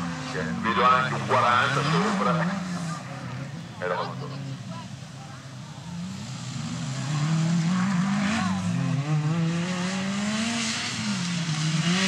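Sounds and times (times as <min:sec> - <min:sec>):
off-road car engine revving: 0:00.0 - 0:12.0.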